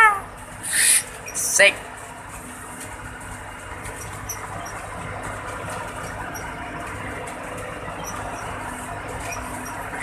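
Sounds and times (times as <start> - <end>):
vehicle engine running: 0.0 - 10.0
road noise: 0.1 - 10.0.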